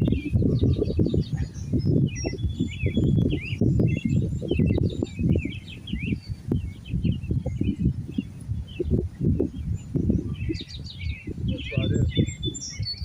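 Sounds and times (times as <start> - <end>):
small birds chirping and trilling: 0.0 - 13.0.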